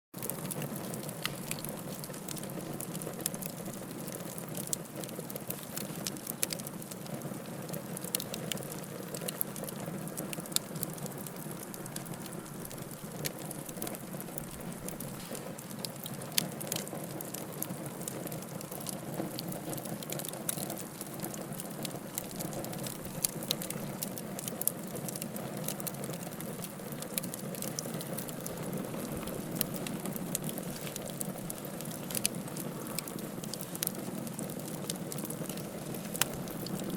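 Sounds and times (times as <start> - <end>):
fire crackling and popping: 0.2 - 36.9.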